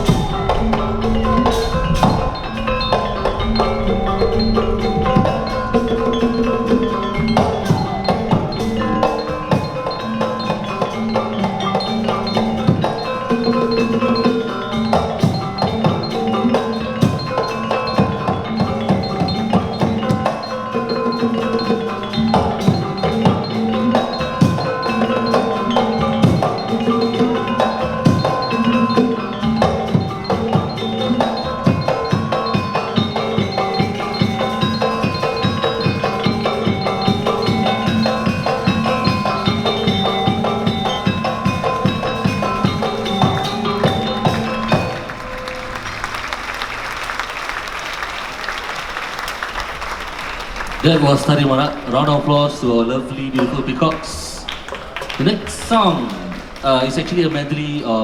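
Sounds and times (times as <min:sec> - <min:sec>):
hand drum strokes: 0:00.0 - 0:47.3
gongs and metallophones ringing: 0:00.0 - 0:58.0.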